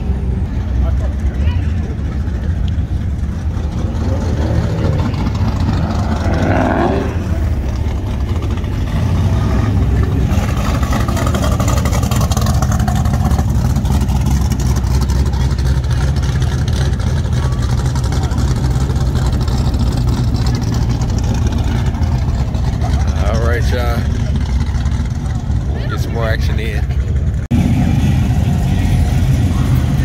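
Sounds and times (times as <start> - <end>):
car engines rumbling past: 0.0 - 30.0.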